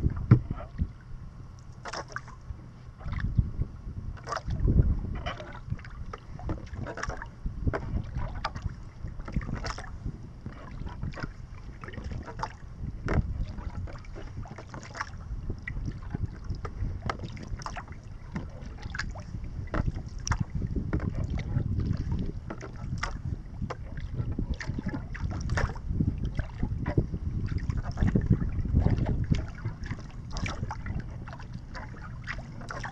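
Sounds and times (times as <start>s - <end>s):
water lapping against kayak hull: 0.0s - 32.9s
wind rumble on microphone: 0.0s - 32.9s.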